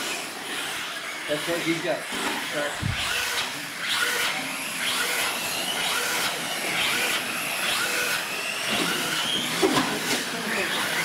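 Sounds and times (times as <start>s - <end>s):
rc truck motors whining: 0.0s - 11.0s.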